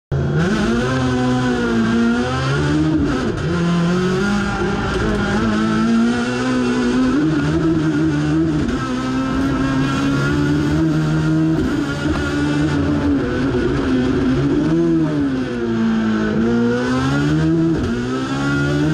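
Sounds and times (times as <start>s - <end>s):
race car engine accelerating: 0.1s - 18.9s.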